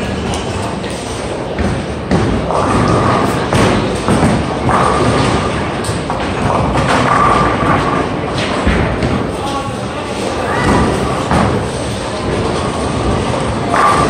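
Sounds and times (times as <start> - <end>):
bowling balls thudding on lanes: 0.0 - 14.0
rumble of bowling lanes: 0.0 - 14.0.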